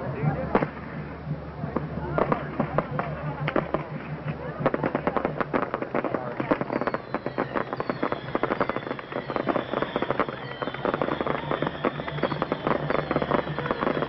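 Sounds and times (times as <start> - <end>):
fireworks crackling: 0.0 - 14.0
faint firework whistles: 2.2 - 14.0.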